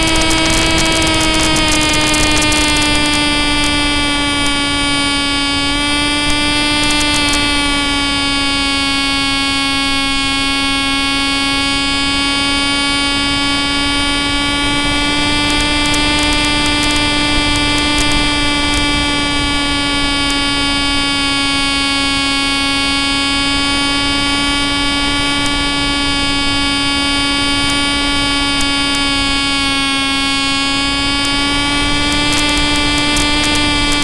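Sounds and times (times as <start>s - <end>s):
electric motor and propeller whining: 0.0s - 34.0s.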